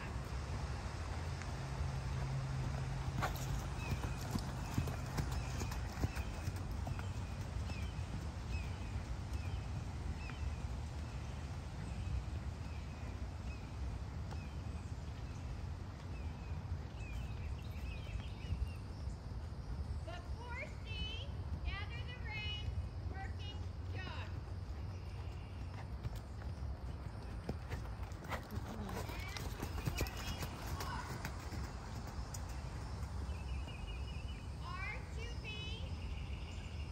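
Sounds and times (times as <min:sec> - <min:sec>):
hoofbeats on sand: 0:00.0 - 0:22.7, 0:23.6 - 0:34.0.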